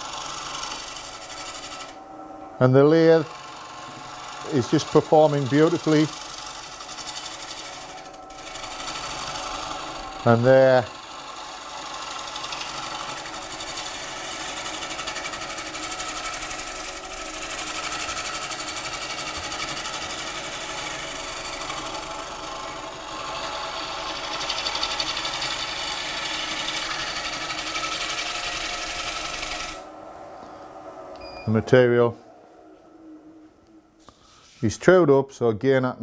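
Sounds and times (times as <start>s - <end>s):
gouge rasping on spinning wood: 0.0s - 2.0s, 2.7s - 29.9s.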